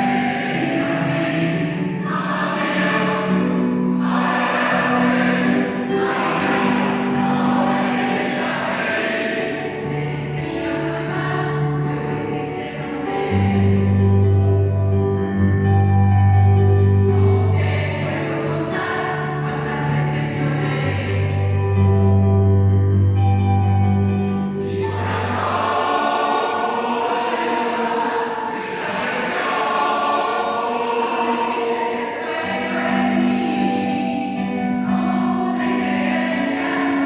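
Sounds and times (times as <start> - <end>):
choir singing held chords: 0.0 - 21.8, 23.4 - 37.0.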